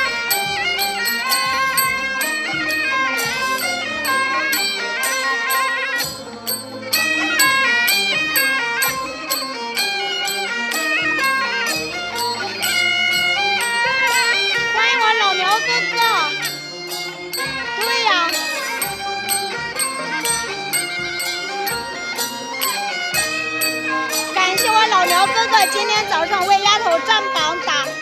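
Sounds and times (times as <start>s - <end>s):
reedy wind instrument melody: 0.0s - 28.0s
steady percussive beat: 0.0s - 28.0s.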